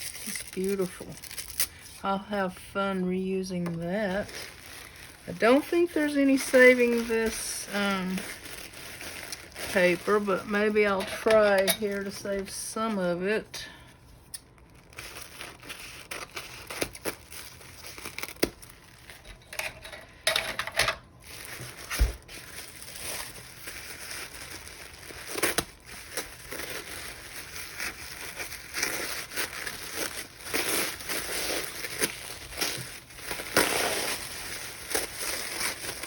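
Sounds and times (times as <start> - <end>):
wrapping paper crinkling and tearing: 0.0 - 20.2, 21.0 - 36.0.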